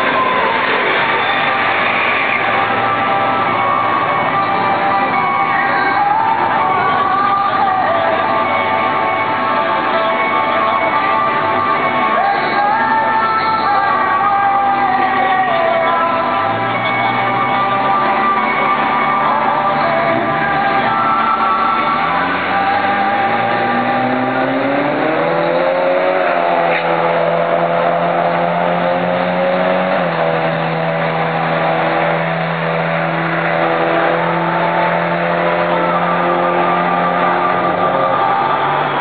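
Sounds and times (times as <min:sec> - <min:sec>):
background music: 0:00.0 - 0:39.0
drag car engines accelerating: 0:00.0 - 0:39.0.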